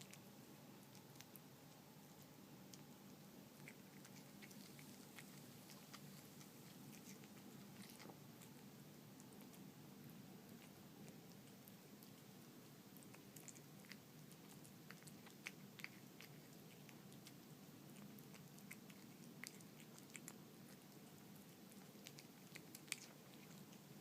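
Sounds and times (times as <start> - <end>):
cat chewing and lapping: 0.0 - 24.0.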